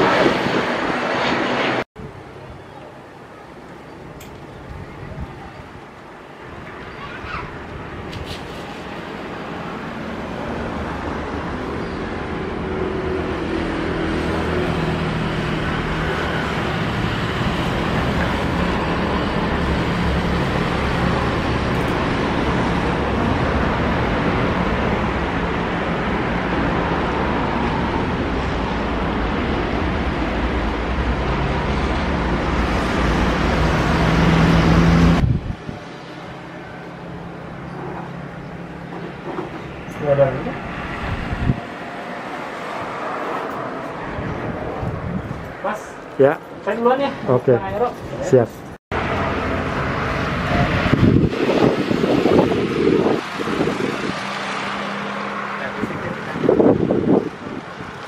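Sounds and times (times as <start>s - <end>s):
jet engines roaring: 0.0s - 46.2s, 48.9s - 58.0s.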